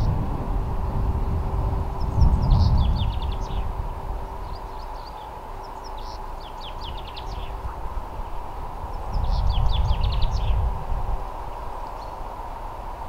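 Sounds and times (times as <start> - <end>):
low rumble: 0.0 - 12.6
bird singing: 1.2 - 10.7, 11.4 - 12.4.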